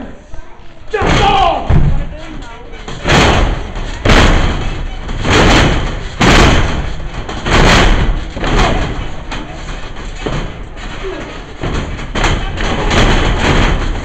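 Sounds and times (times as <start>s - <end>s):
bodies slamming into ring corner: 0.9s - 2.1s, 2.9s - 14.0s
thuds and knocks against ropes: 1.0s - 2.1s, 2.9s - 14.0s.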